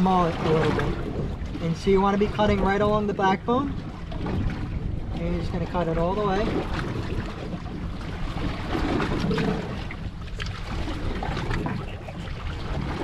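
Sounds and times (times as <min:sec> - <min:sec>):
water slapping boat hull: 0:00.0 - 0:13.0
wind rumble on microphone: 0:00.0 - 0:13.0.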